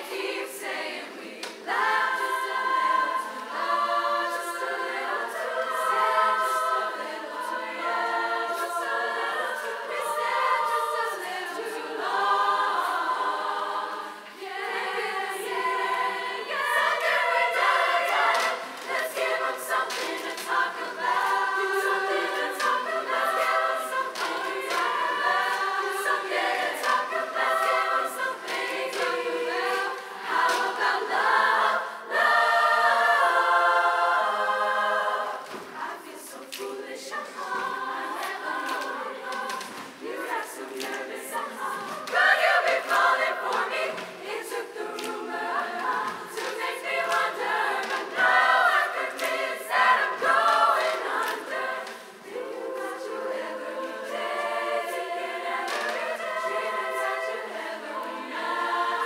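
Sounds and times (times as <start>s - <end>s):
women's chorus singing a cappella: 0.0s - 59.0s.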